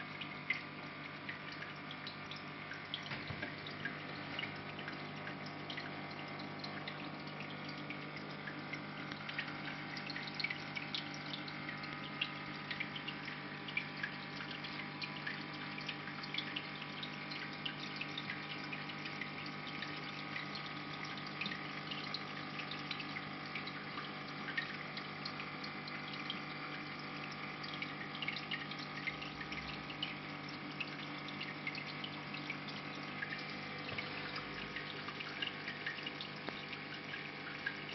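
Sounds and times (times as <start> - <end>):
pump humming: 0.0 - 37.9
water drips: 0.0 - 37.9
water trickling and splashing: 0.0 - 37.9.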